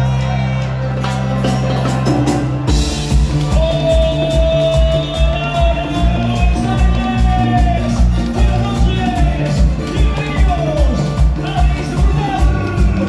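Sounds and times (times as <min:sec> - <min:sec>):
band playing live: 0:00.0 - 0:13.0.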